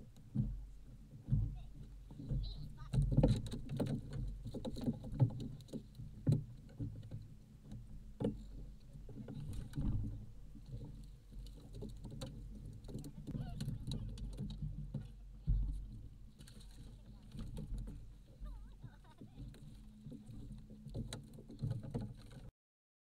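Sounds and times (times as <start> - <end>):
water lapping against boat hull: 0.0 - 22.5.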